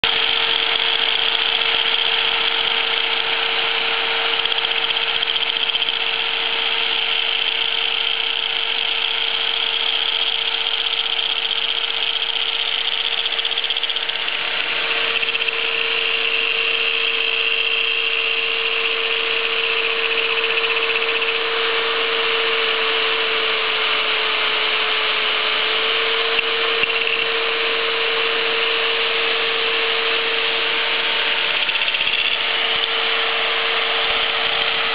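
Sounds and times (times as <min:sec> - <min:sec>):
angle grinder grinding metal: 0:00.0 - 0:34.9.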